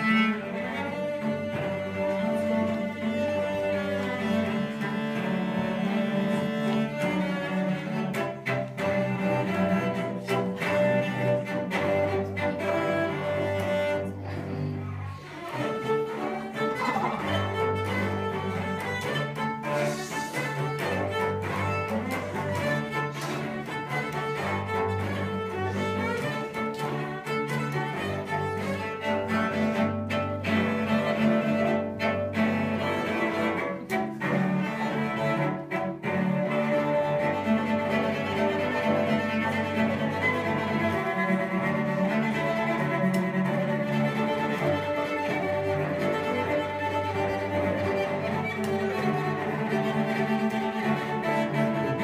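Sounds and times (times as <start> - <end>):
cello bowing low notes: 0.0 - 52.0.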